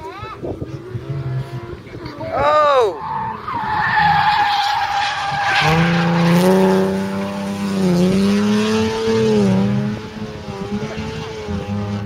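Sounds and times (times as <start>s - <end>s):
race car engine: 0.5s - 12.0s.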